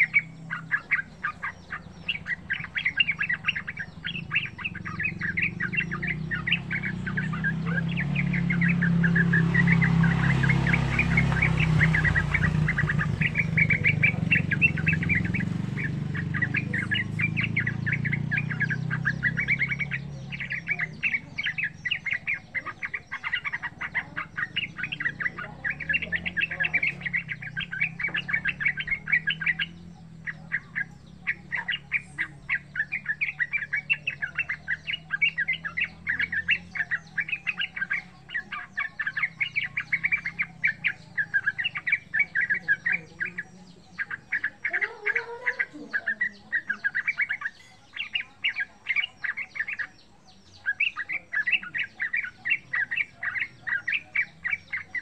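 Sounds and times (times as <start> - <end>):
bird singing chattering phrases: 0.0 - 55.0.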